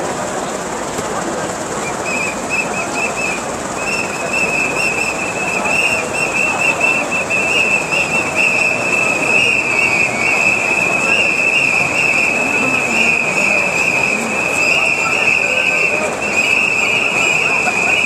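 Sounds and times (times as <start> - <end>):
crowd noise: 0.0 - 18.0
high wavering whistle tone: 1.8 - 18.0.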